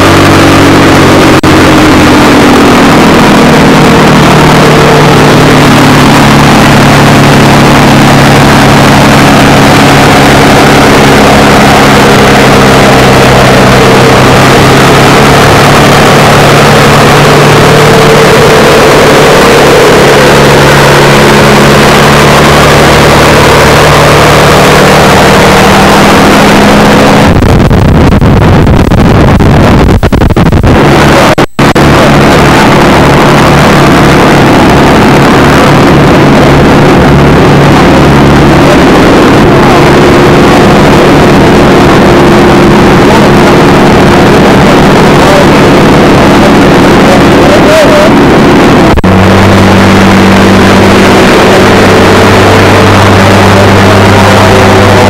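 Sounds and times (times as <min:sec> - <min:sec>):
propeller plane engine drone: 0:00.0 - 0:55.0.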